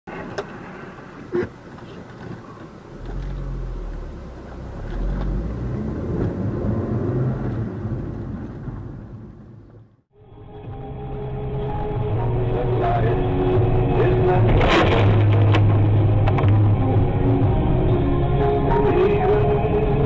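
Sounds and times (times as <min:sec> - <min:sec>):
road and engine noise: 0:00.1 - 0:20.0.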